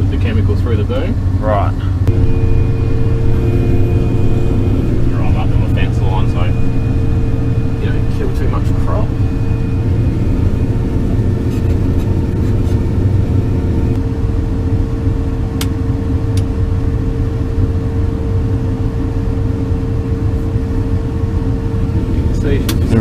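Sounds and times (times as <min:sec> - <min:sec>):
engine drone with whine: 0:00.0 - 0:23.0.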